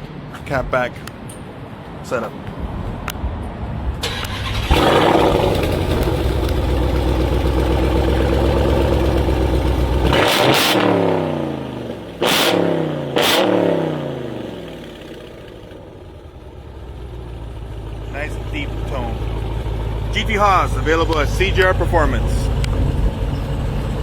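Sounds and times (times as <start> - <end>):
car engine revving with deep exhaust: 4.6 - 24.0.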